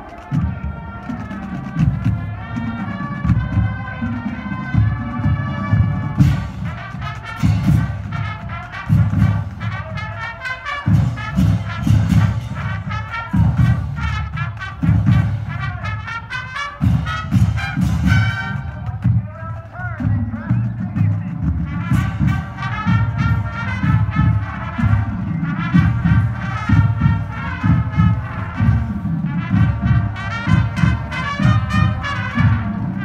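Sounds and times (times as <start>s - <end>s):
marching band playing: 0.0s - 33.0s.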